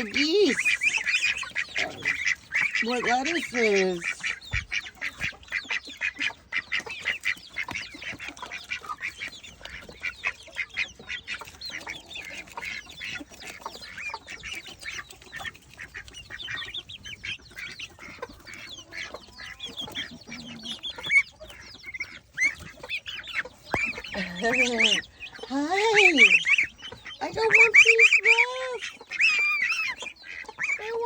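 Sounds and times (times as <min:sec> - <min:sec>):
chickens calling: 0:00.0 - 0:31.0
geese calling: 0:00.0 - 0:31.0.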